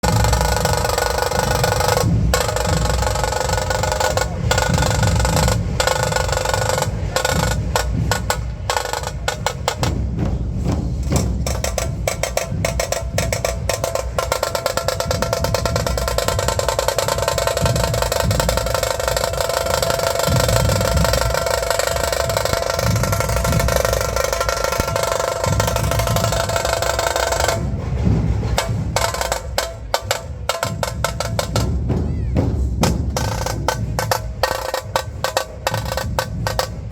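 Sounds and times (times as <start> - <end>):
dhol drums playing fast: 0.0 - 36.9.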